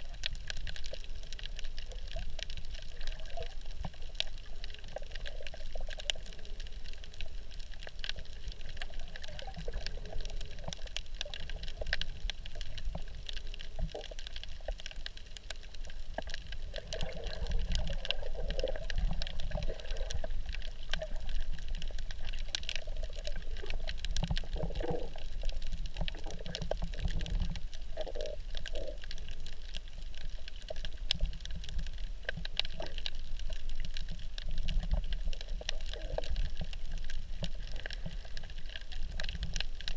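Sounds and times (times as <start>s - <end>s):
faint underwater clicks: 0.0s - 39.9s
underwater sloshing and bubbling: 0.0s - 39.9s.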